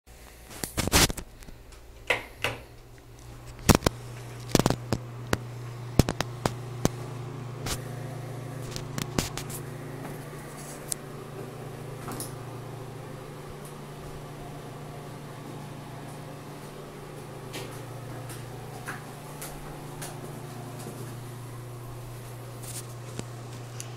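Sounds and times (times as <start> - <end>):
ventilation fan humming: 0.1 - 23.9.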